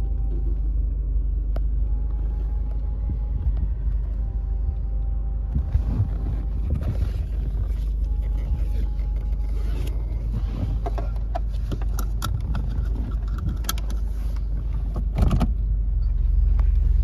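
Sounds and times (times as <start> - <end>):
car engine drone in cabin: 0.0 - 17.0
road noise: 0.0 - 17.0.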